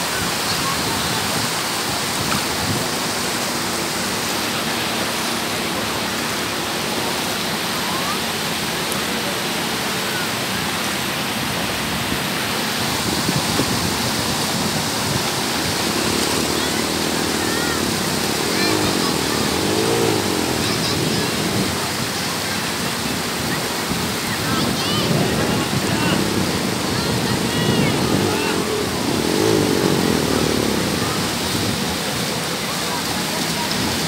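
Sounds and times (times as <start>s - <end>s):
sea surf washing on beach: 0.0s - 34.0s.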